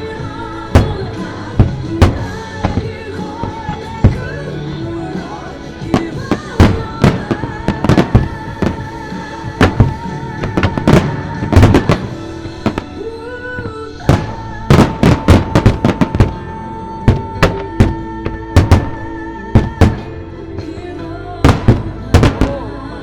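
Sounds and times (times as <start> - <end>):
fireworks bursting with sharp bangs: 0.0 - 20.7, 21.4 - 22.8
pop ballad playing: 0.0 - 23.0
woman singing: 0.0 - 23.0.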